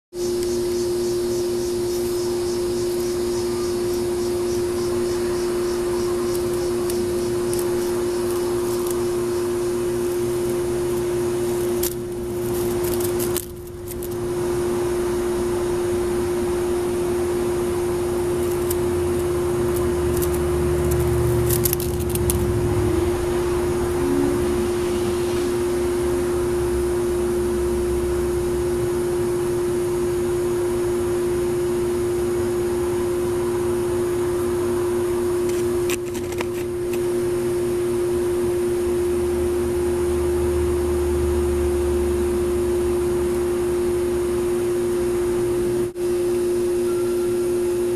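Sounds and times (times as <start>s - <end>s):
steady mechanical hum: 0.1s - 47.9s.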